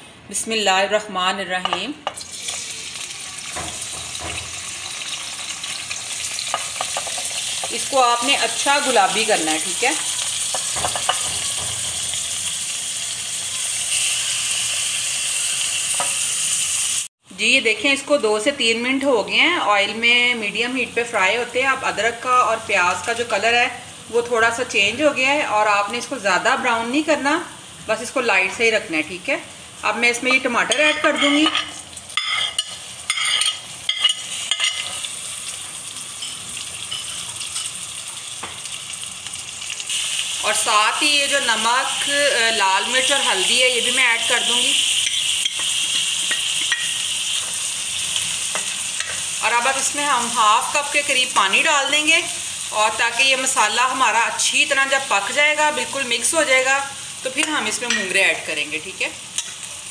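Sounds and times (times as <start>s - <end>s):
onions sizzling in hot oil: 2.2s - 17.1s, 17.9s - 59.9s.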